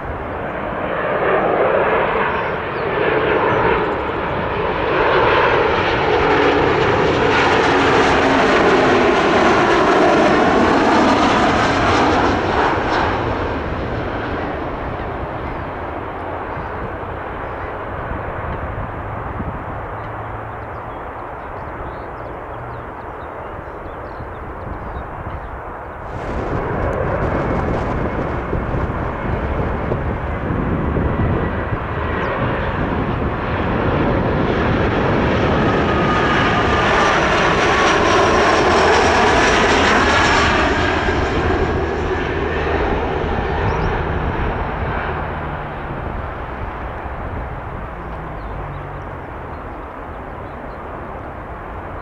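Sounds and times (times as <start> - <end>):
jet airliner engines passing: 0.0 - 52.0
high engine whine: 5.2 - 52.0.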